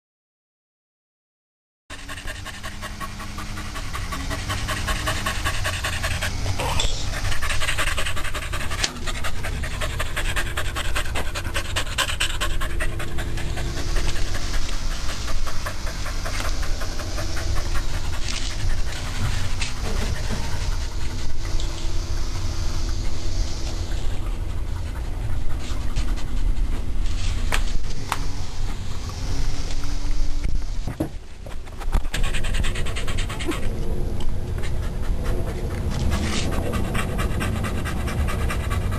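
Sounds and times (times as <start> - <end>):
puppy panting: 1.9 - 29.2, 31.4 - 38.9.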